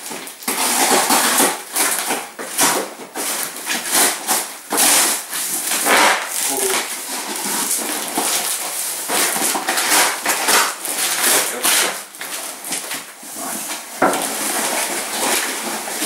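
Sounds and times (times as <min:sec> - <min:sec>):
packaging rustled and torn: 0:00.0 - 0:16.0.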